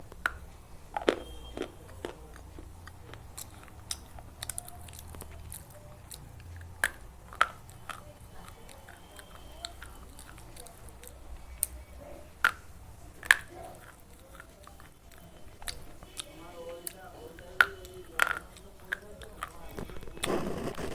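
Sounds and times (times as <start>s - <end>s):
chewing crackles: 0.0s - 20.9s
slate pencils being bitten: 1.0s - 20.9s.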